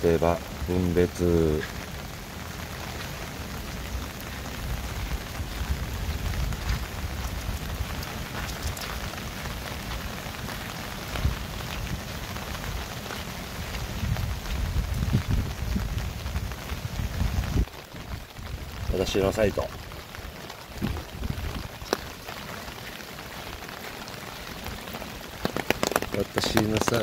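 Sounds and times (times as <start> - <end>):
rain patter: 0.0 - 27.0.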